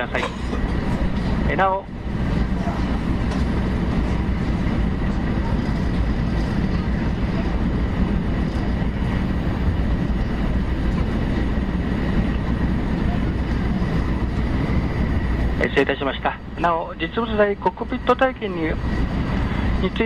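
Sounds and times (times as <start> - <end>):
low rumble of train wheels: 0.0 - 20.0.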